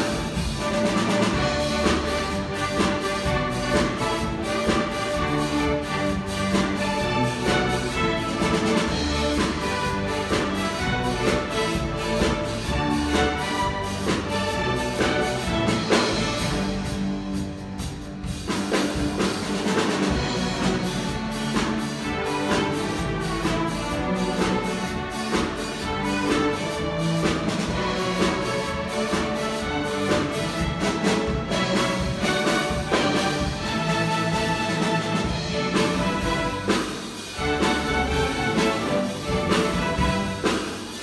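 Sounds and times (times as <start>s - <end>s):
string orchestra playing pop: 0.0s - 41.0s.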